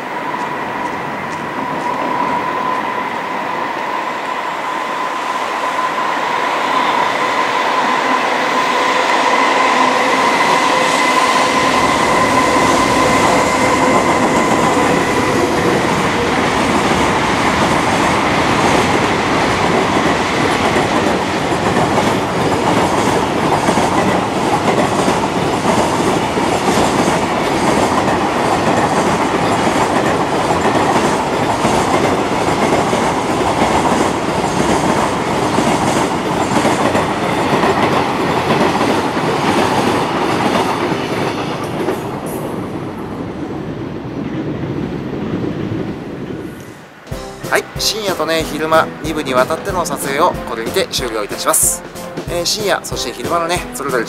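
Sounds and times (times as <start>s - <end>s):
electric locomotive whine: 0.0s - 47.4s.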